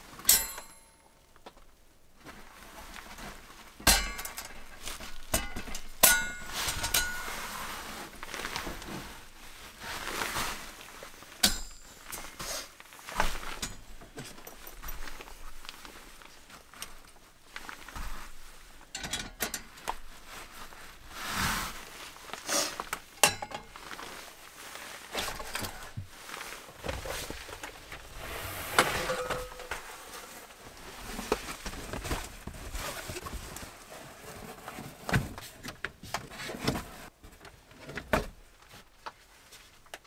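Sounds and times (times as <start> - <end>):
camping gear clicking and rustling: 1.3 - 40.0.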